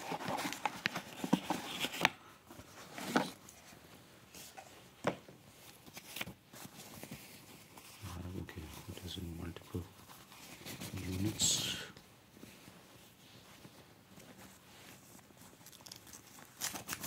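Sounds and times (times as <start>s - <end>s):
cardboard and fabric rustling: 0.0s - 17.0s.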